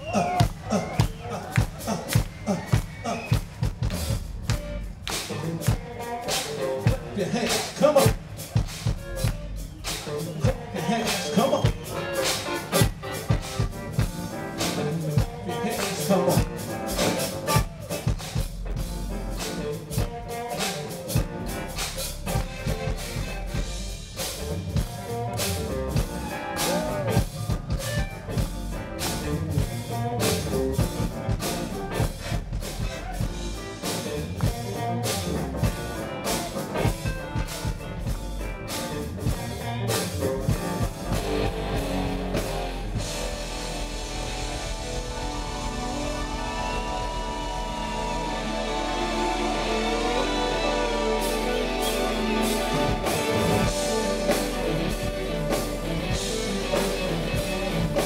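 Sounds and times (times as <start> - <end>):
drum kit steady beat: 0.0 - 58.0
live funk band: 0.0 - 58.0.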